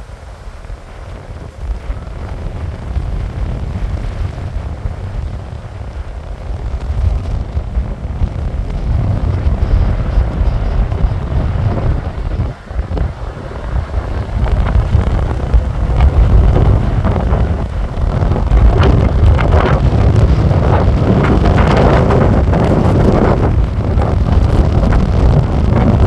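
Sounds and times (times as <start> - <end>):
heavy surf breaking: 0.0 - 26.0
wind buffeting microphone: 0.0 - 26.0.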